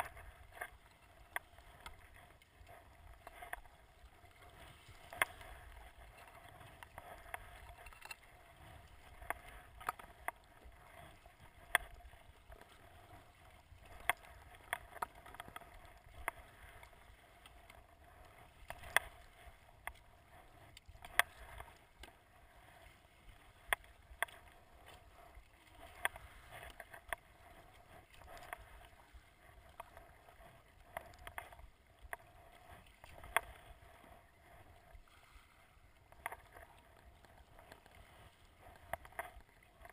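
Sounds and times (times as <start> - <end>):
paddle clicks and splashes: 0.0 - 39.9.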